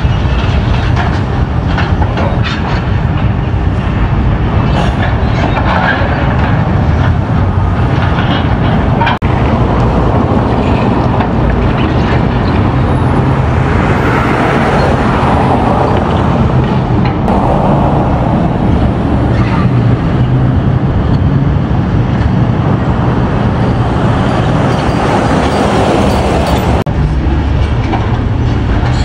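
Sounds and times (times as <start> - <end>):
demolition machinery: 0.0 - 29.0
street traffic rumble: 0.0 - 29.0.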